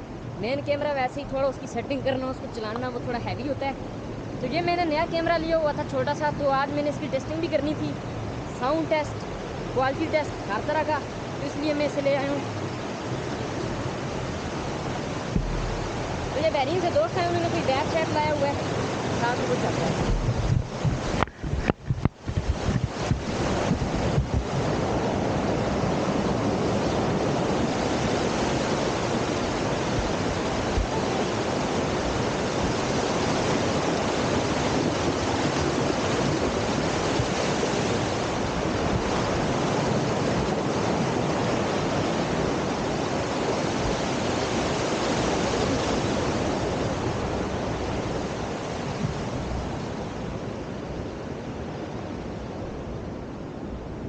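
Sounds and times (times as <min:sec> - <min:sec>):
fast-flowing water rushing: 0:02.8 - 0:52.0.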